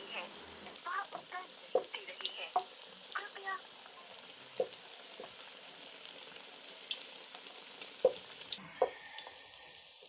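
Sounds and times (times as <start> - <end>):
dough sizzling in hot oil: 0.0 - 10.0.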